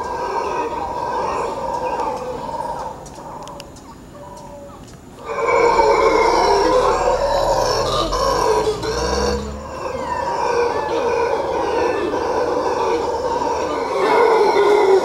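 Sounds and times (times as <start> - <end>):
howler monkeys howling: 0.0 - 15.0.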